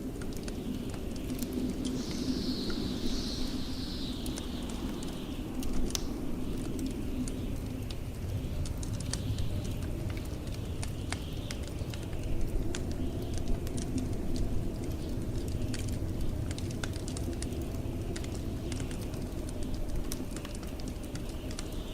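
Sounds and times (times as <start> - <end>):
log fire crackling and popping: 0.0 - 21.9.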